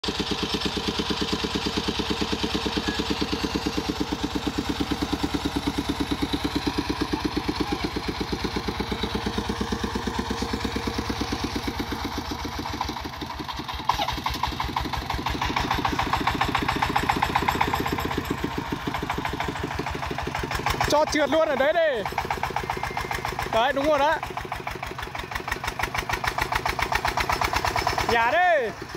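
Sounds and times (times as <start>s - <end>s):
diesel engine chugging: 0.0s - 28.9s.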